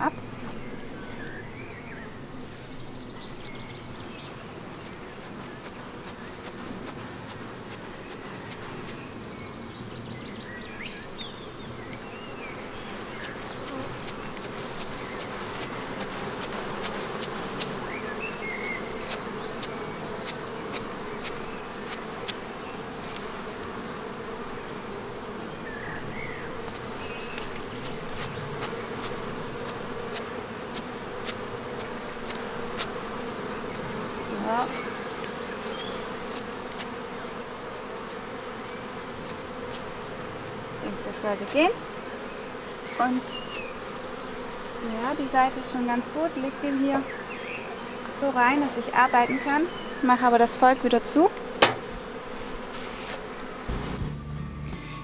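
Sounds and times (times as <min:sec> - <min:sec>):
bee brush sweeping: 0:00.0 - 0:54.8
bees buzzing: 0:00.0 - 0:55.0.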